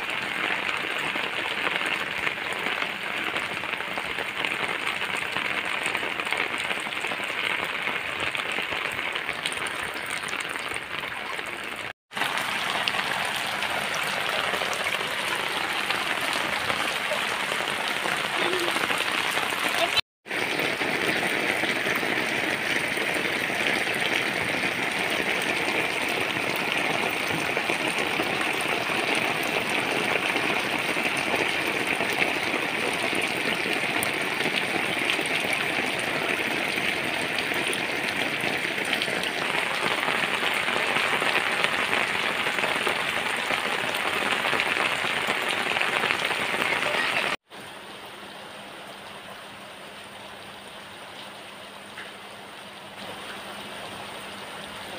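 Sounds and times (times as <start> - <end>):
heavy rain on a wet roof: 0.0 - 54.9.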